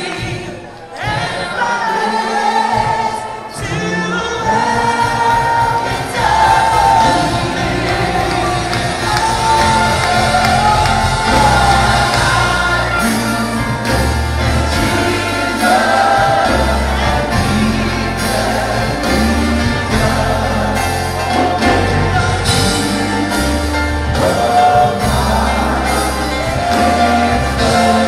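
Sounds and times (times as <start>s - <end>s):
congregation singing: 0.0s - 28.0s
worship band playing: 0.0s - 28.0s.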